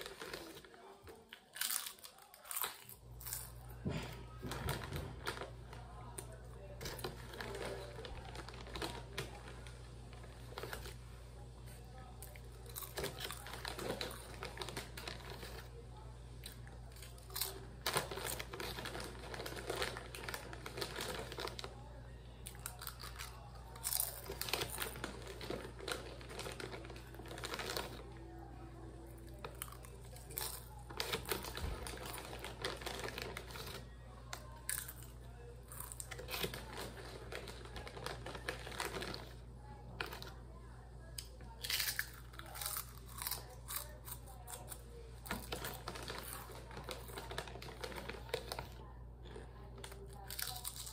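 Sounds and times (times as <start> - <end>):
chip bag crinkling: 0.0 - 11.0, 12.0 - 40.4, 41.2 - 50.9
chips crunched and chewed: 0.0 - 11.0, 12.2 - 15.8, 16.4 - 21.7, 22.4 - 28.1, 29.2 - 39.4, 41.2 - 50.9.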